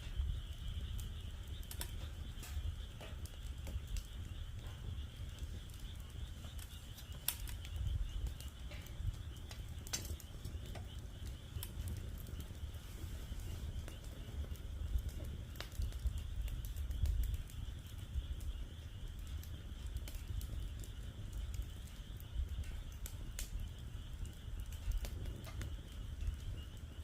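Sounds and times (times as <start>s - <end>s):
frogs calling: 0.0s - 27.0s
wood fire crackling and popping: 0.0s - 27.0s.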